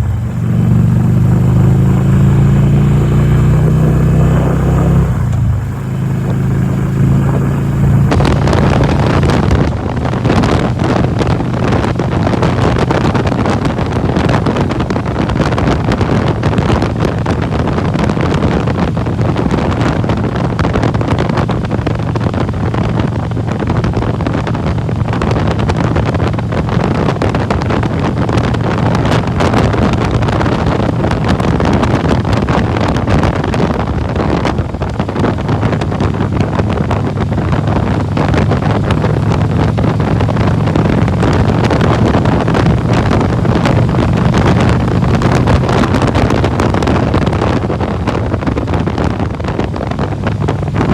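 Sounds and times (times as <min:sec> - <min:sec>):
motorcycle engine running: 0:00.0 - 0:50.9
wind buffeting microphone: 0:00.0 - 0:50.9.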